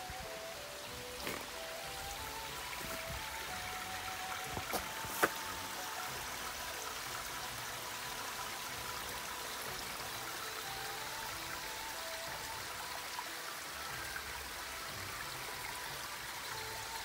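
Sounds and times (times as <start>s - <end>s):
stream trickling: 0.0s - 17.0s.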